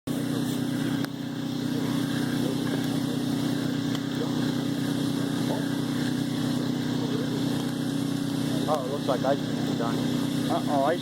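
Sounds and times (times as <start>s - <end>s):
campfire crackling: 0.1s - 11.0s
small motor humming: 0.1s - 11.0s.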